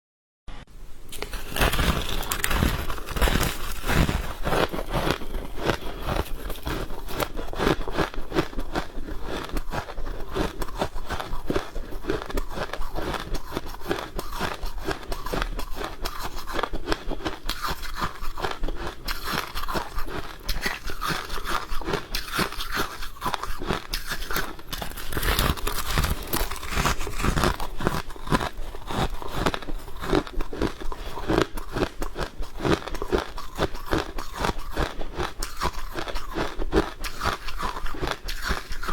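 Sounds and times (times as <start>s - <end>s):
freezer frost crunching: 1.1s - 38.9s.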